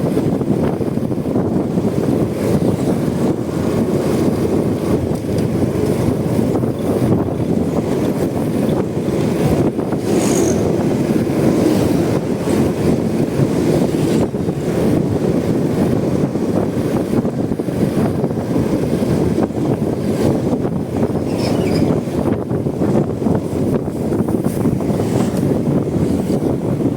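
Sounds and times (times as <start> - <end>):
motorcycle road noise: 0.0 - 26.9
wind rush on microphone: 0.0 - 26.9.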